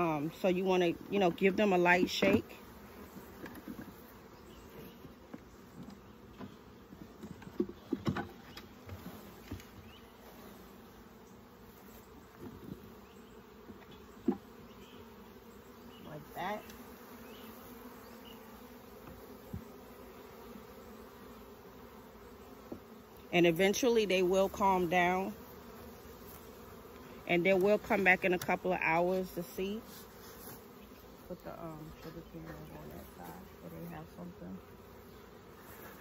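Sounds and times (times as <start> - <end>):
honeybees buzzing: 0.0 - 36.0.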